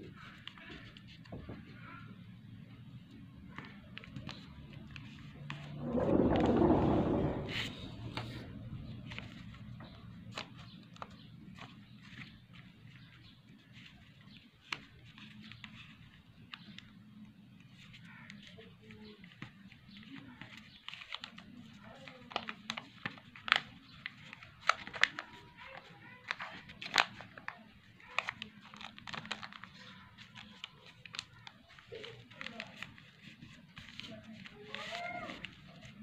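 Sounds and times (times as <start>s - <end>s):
paper being folded and creased: 3.0s - 17.0s, 17.6s - 36.0s.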